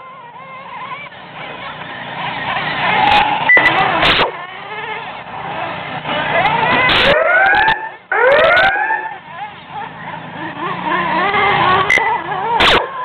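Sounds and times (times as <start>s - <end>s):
electric toy truck motors whining: 0.0s - 13.0s.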